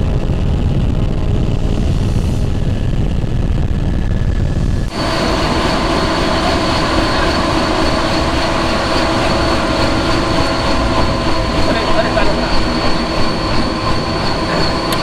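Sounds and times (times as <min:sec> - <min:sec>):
helicopter engine roar with turbine whine: 0:00.0 - 0:15.0
helicopter rumble in flight: 0:00.0 - 0:15.0.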